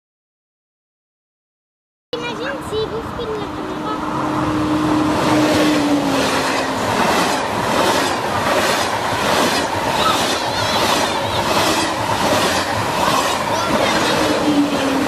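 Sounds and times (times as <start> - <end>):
high-speed train rushing past: 2.2 - 15.0.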